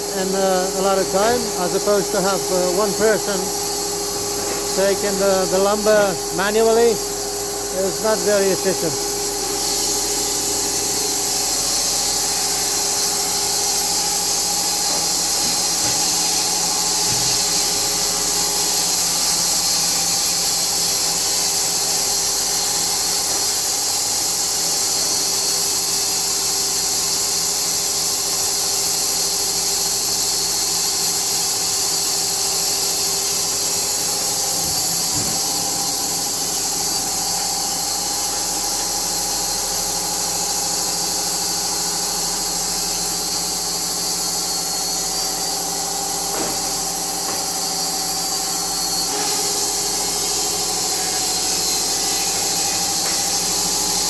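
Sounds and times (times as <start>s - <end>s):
machine hum: 0.0s - 22.3s, 32.1s - 54.0s
sawmill machinery hissing: 0.0s - 54.0s.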